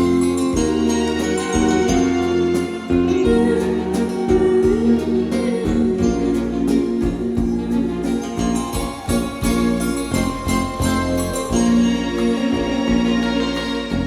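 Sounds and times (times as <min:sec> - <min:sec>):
instrumental karaoke backing track: 0:00.0 - 0:14.0.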